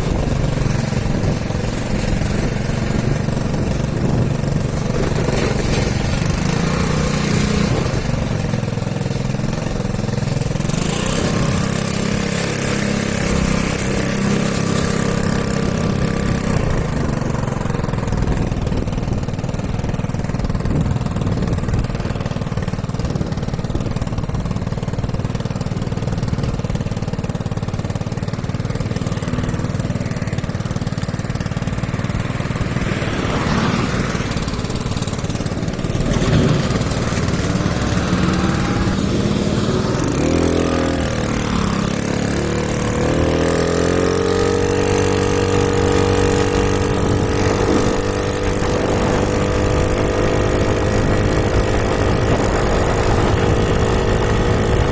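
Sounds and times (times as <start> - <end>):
small motorcycle engine running: 0.0 - 54.9.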